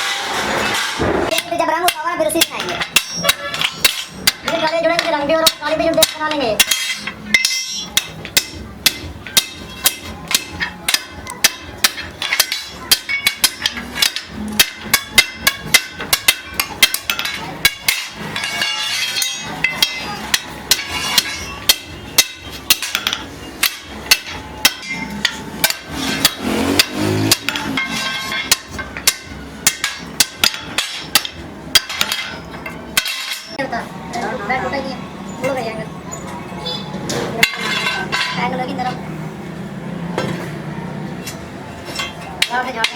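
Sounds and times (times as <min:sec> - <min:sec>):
hammer clanking on metal: 0:00.0 - 0:33.6, 0:37.0 - 0:38.6, 0:41.3 - 0:42.9.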